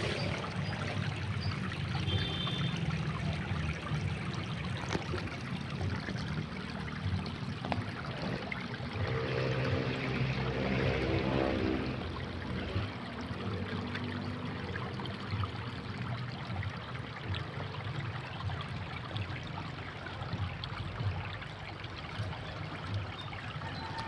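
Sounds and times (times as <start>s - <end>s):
water trickling among rocks: 0.0s - 24.0s.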